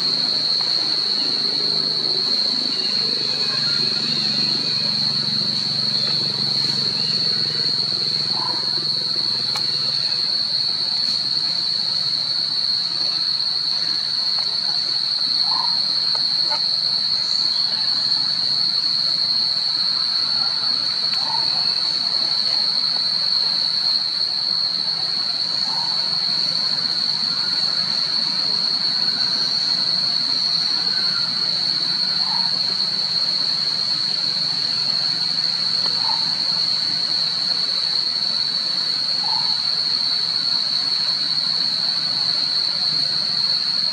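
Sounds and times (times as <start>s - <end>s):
cicadas droning: 0.0s - 43.9s.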